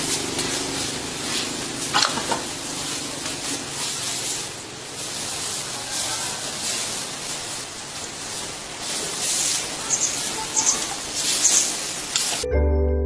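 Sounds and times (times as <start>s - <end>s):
hay rustling and scuffing: 0.0s - 12.4s.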